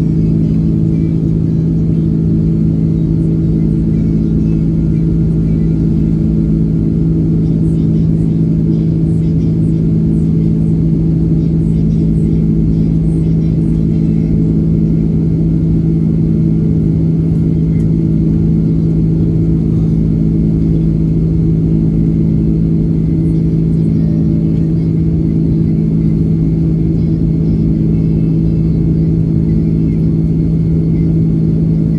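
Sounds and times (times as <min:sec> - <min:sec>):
aircraft cabin engine drone: 0:00.0 - 0:31.9.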